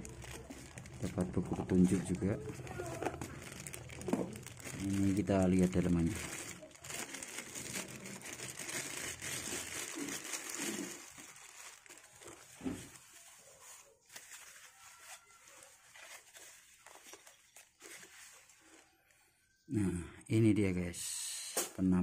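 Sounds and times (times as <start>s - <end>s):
plastic bag crinkling: 0.0s - 19.1s
wrapping sheet rustling: 0.0s - 19.1s.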